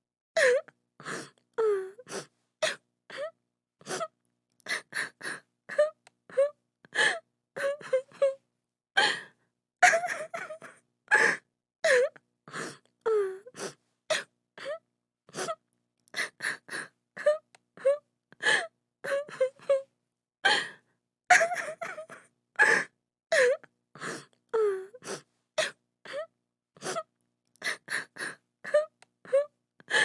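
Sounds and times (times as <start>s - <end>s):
woman sobbing and gasping: 0.4s - 4.1s, 4.7s - 8.4s, 9.0s - 15.6s, 16.2s - 30.0s.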